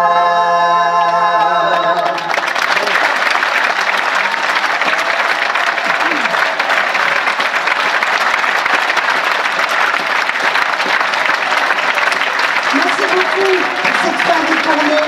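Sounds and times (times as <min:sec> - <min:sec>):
crowd applauding: 0:01.4 - 0:15.0.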